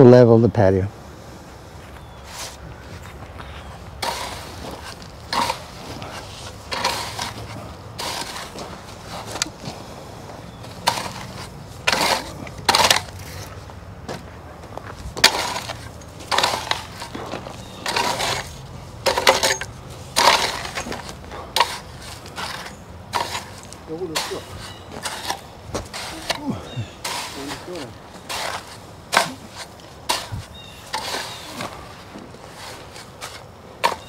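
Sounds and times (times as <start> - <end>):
shovel and rake scraping stone dust: 2.2 - 13.6, 14.8 - 34.0.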